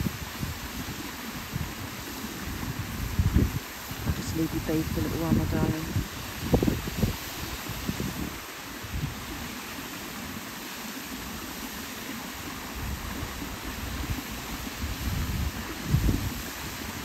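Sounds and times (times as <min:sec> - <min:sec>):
wind buffeting microphone: 0:00.0 - 0:09.5, 0:12.6 - 0:17.0
flowing river water: 0:00.0 - 0:17.0.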